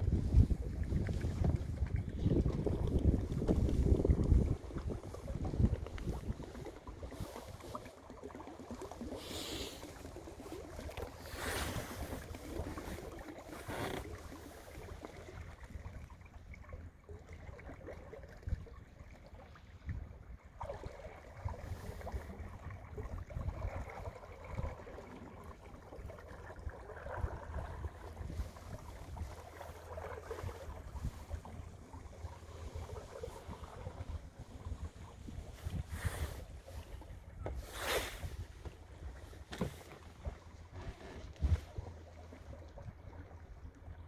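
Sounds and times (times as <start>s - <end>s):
wind rumbling on microphone: 0.0s - 7.8s, 9.2s - 16.5s, 19.8s - 25.1s, 25.9s - 44.0s
water splashing along boat hull: 0.0s - 44.0s.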